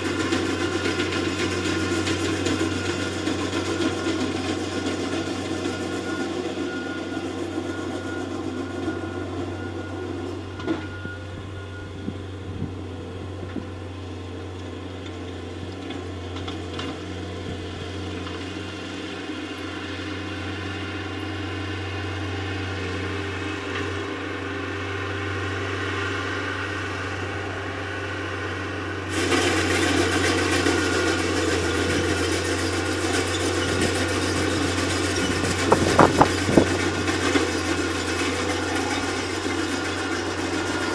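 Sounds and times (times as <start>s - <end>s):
heavy equipment engine humming: 0.0s - 40.9s
loud full engine noise: 0.0s - 40.9s.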